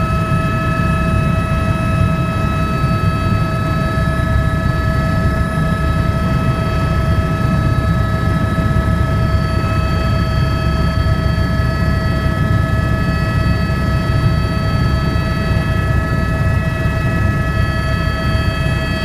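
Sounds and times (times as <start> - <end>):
aircraft engine rumble: 0.0 - 19.0
steady whining tones: 0.0 - 19.0.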